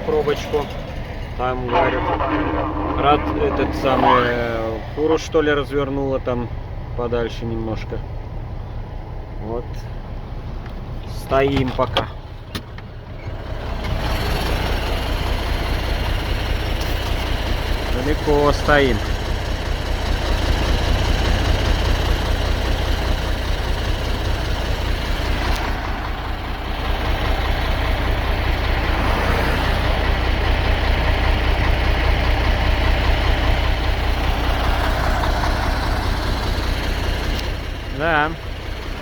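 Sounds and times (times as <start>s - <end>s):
truck diesel engine idling: 0.0s - 39.0s.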